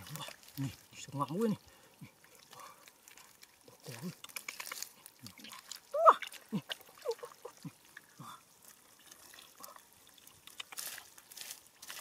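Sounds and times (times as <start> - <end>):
water dripping: 0.0 - 12.0
wet mud squelching: 0.0 - 12.0.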